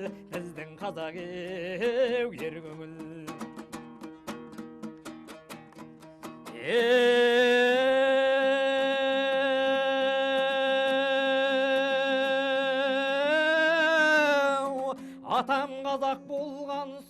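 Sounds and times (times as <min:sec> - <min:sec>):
plucked string accompaniment: 0:00.0 - 0:17.0.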